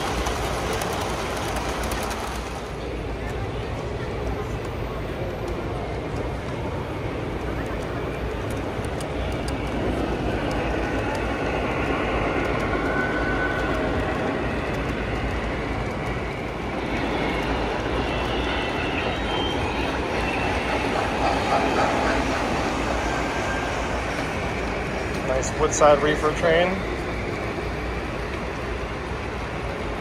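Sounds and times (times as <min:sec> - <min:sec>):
model train wheels rumbling on track: 0:00.0 - 0:30.0.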